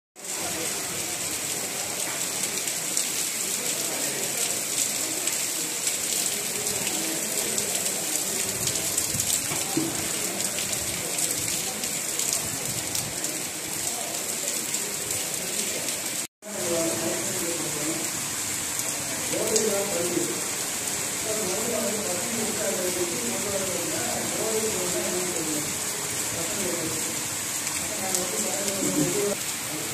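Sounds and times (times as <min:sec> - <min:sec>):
heavy rain splashing into water: 0:00.2 - 0:29.9.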